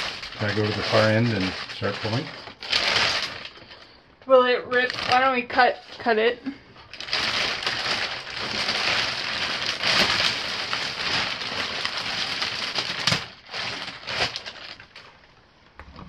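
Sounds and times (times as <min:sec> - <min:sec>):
plastic wrapping crinkling: 0:00.0 - 0:06.2, 0:06.8 - 0:15.4.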